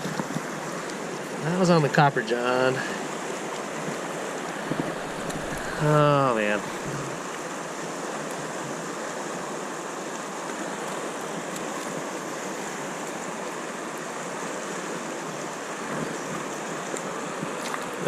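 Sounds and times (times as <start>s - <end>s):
river current rushing: 0.0s - 18.0s.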